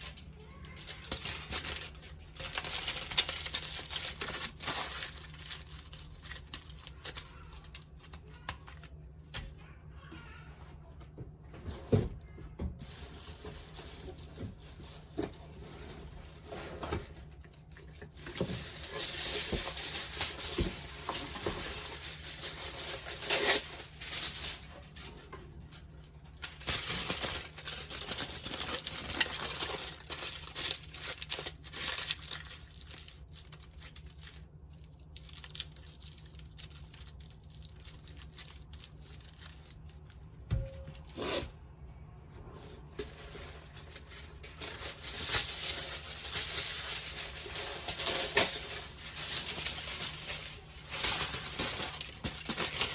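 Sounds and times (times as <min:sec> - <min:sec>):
crinkling and rustling: 0:00.0 - 0:41.2, 0:42.2 - 0:52.9.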